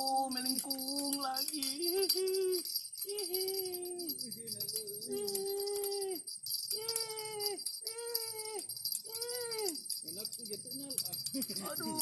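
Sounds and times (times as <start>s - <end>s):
jingling bells: 0.0s - 12.0s.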